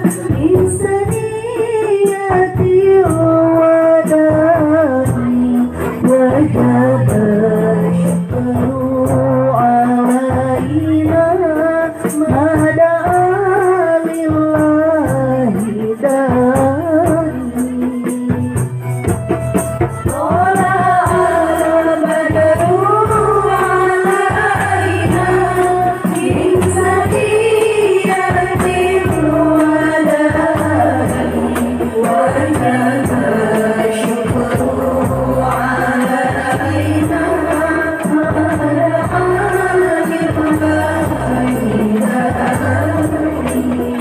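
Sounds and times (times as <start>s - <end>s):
devotional singing: 0.0s - 18.4s, 20.0s - 44.0s
frame drums beating: 0.0s - 44.0s
jingling percussion: 0.0s - 44.0s.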